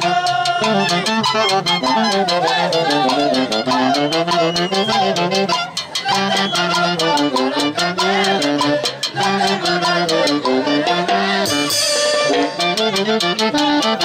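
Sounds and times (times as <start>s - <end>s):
melody instruments playing a tune: 0.0s - 14.0s
steady percussion beat: 0.0s - 14.0s.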